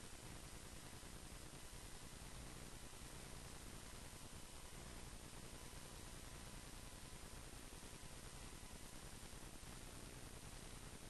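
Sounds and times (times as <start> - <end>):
faint thin hum: 0.0 - 11.0
low recording hiss: 0.0 - 11.0.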